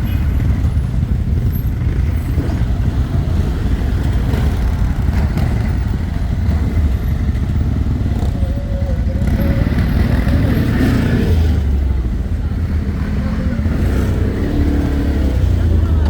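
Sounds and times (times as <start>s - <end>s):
atv engine rumbling: 0.0s - 16.0s.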